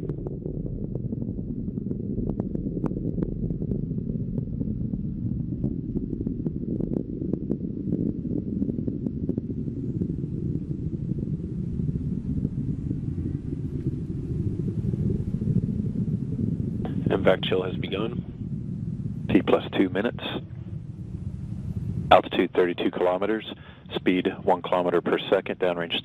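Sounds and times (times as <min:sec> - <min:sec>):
faint crackles: 0:00.0 - 0:26.0
rocket engine rumble: 0:00.0 - 0:26.0.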